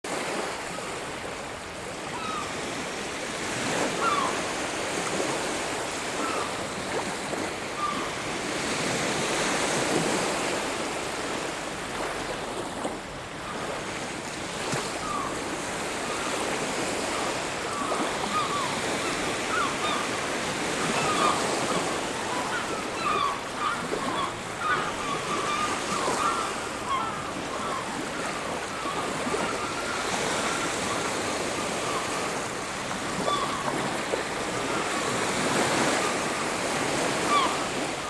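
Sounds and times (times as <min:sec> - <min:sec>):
sea waves breaking on beach: 0:00.1 - 0:38.0.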